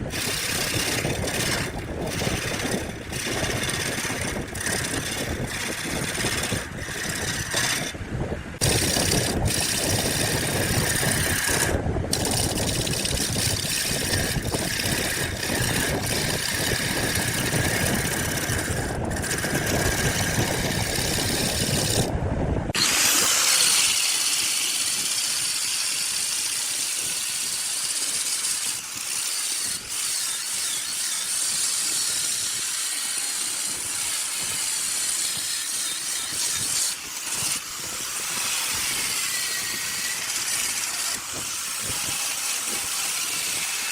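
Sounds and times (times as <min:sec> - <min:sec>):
woodworking power tools running: 0:00.0 - 0:43.9.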